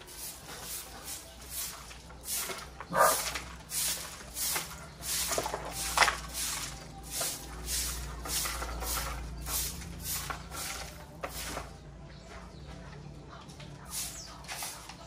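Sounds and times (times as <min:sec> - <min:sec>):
broom sweeping concrete: 0:00.0 - 0:12.0, 0:13.5 - 0:15.0.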